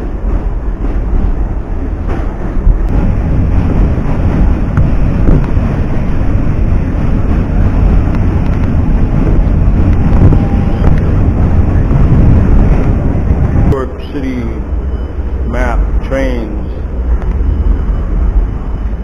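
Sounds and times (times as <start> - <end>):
subway train rumbling on tracks: 0.0 - 19.0.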